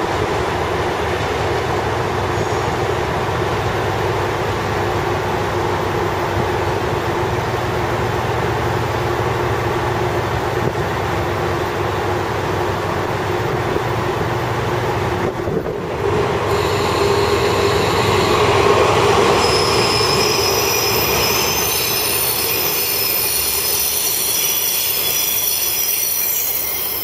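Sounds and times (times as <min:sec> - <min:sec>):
diesel railcar engine droning: 0:00.0 - 0:27.0.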